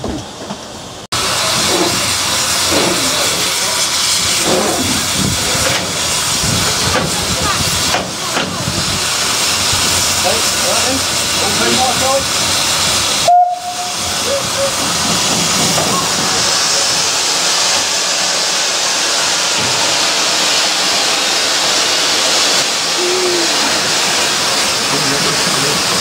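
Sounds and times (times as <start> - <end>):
steam hissing from locomotive: 1.2 - 26.0.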